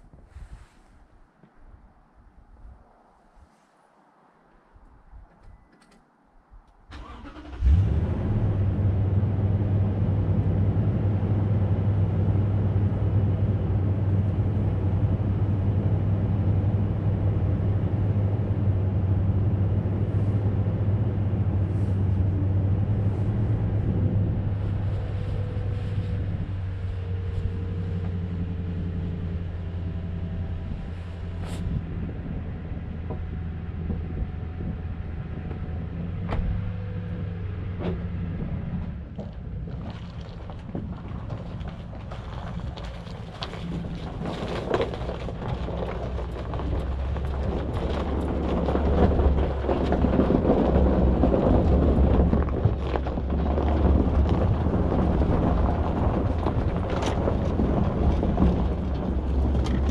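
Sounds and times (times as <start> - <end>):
truck engine starting and idling: 6.9 - 59.9.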